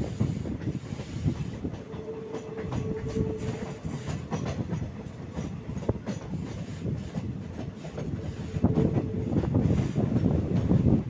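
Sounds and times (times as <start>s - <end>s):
train coaches rumbling on rails: 0.0s - 11.0s.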